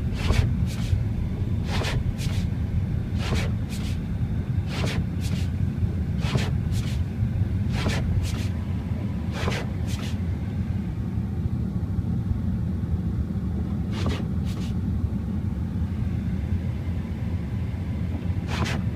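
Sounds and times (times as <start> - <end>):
car rumbling on road: 0.0 - 18.9.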